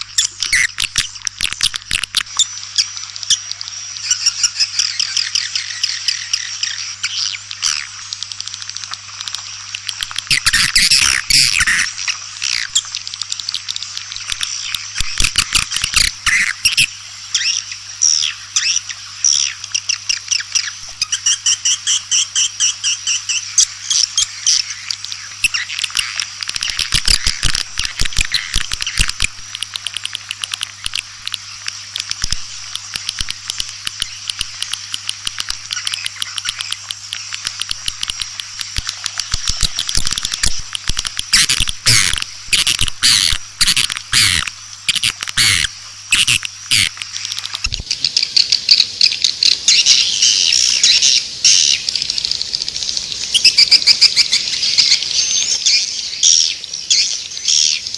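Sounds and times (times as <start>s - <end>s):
low steady hum: 0.0s - 56.2s
swiftlets twittering and chirping: 0.0s - 57.9s.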